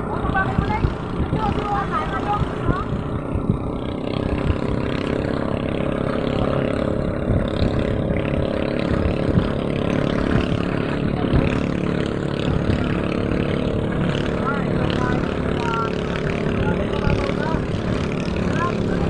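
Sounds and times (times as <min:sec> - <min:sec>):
small engine running steadily: 0:00.0 - 0:19.0.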